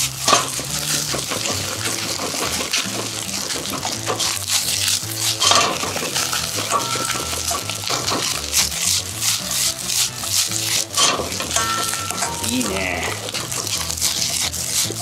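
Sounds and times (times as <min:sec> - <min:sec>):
background music with bass: 0:00.0 - 0:15.0
food sizzling: 0:00.0 - 0:15.0
utensil scraping a frying pan: 0:00.0 - 0:15.0.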